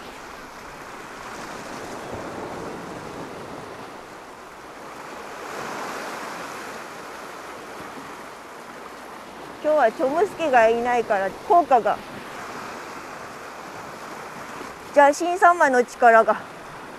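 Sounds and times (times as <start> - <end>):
waves washing on rocky shore: 0.0 - 16.9.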